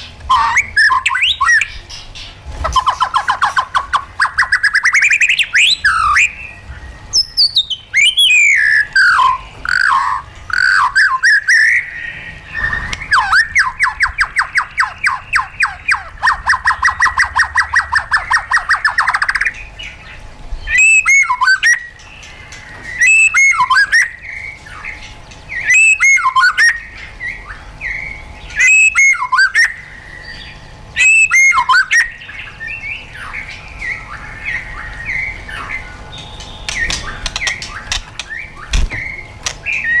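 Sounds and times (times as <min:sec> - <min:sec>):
soft bird twittering: 0:00.0 - 0:40.0
bird singing whistled phrases: 0:00.3 - 0:01.8, 0:02.8 - 0:20.0, 0:20.6 - 0:22.0, 0:22.8 - 0:40.0.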